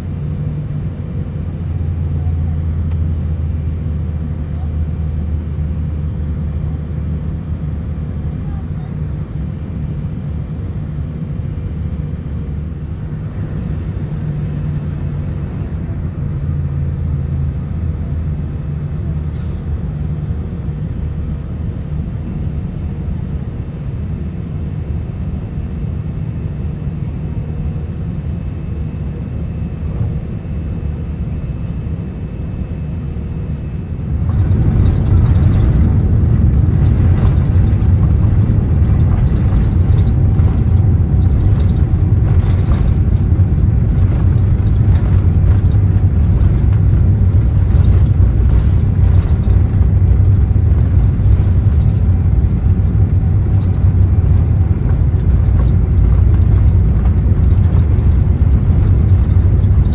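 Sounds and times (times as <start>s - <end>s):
jet engines rumbling: 0.0s - 59.9s.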